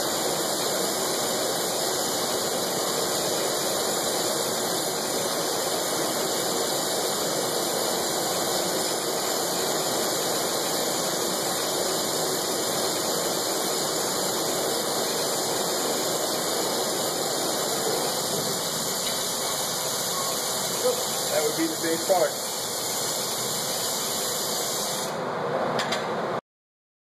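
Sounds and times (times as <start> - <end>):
torch flame hissing: 0.0 - 25.6.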